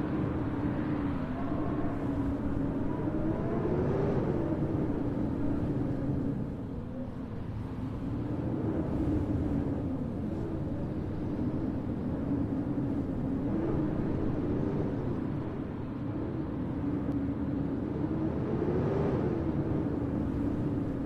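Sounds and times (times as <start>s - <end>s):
faint wavering wind howl: 0.0s - 21.0s
snowstorm wind rumbling: 0.0s - 21.0s.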